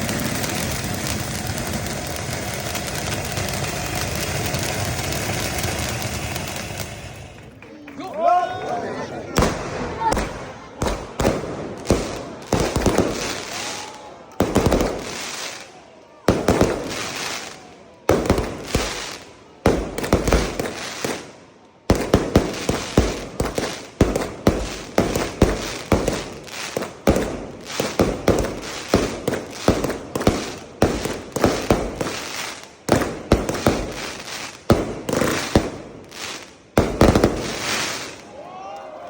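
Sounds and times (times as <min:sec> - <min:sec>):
fireworks banging: 0:00.0 - 0:08.1, 0:09.0 - 0:38.4.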